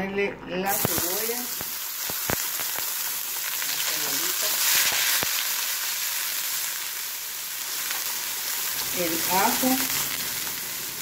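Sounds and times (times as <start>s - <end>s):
onion sizzling in hot oil: 0.7s - 11.0s.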